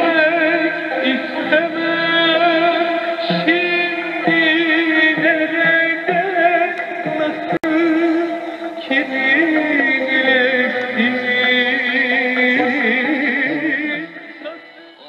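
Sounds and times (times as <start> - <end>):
radio music with sung melody: 0.0 - 15.0.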